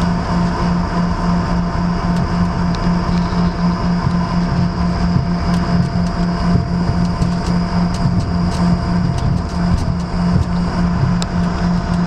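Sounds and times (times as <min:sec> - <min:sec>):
jet engines whining: 0:00.0 - 0:12.0
low pulsing drone: 0:00.0 - 0:12.0.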